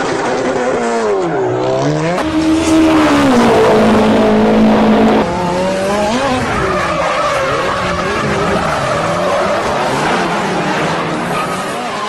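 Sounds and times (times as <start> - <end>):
racing car engine revving: 0.0 - 12.0.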